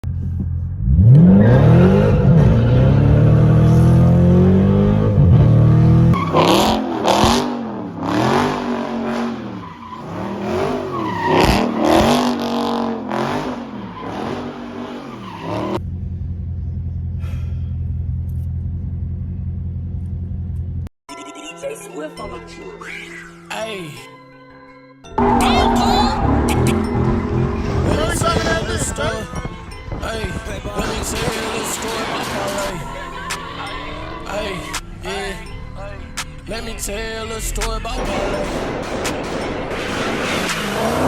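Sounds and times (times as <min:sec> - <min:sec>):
car engine idling: 0:00.0 - 0:06.2, 0:06.8 - 0:20.8, 0:25.2 - 0:41.0
car engine revving: 0:00.0 - 0:20.6, 0:25.1 - 0:41.0.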